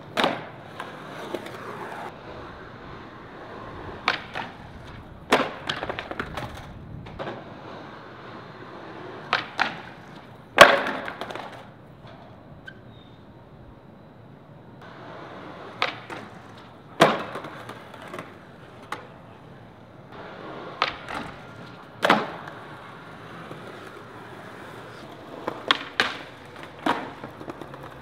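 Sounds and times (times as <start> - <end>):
skateboard clacks: 0.0 - 12.8, 14.8 - 28.0
skateboard wheels rolling on concrete: 0.0 - 28.0.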